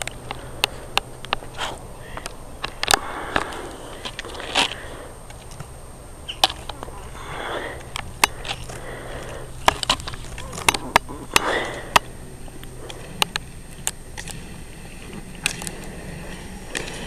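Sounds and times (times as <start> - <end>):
pole tips clicking on asphalt: 0.0 - 17.0
roller ski wheels hissing: 0.0 - 17.0.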